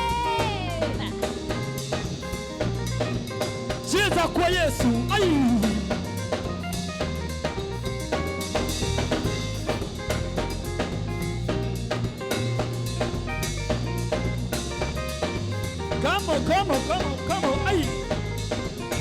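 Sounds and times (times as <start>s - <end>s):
bass: 0.0s - 19.0s
drum kit beat: 0.0s - 19.0s
pitched instrument lines: 0.0s - 19.0s.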